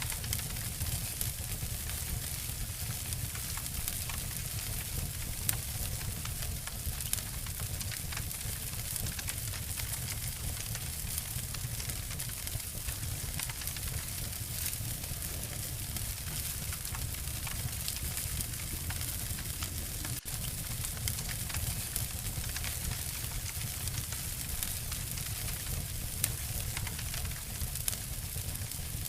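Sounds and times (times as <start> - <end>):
wood fires crackling and popping: 0.0 - 29.0.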